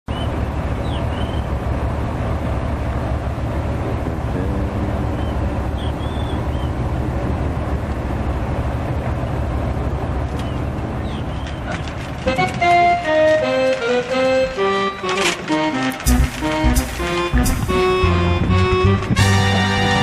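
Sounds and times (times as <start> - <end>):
boat engine rumbling: 0.1 - 20.0.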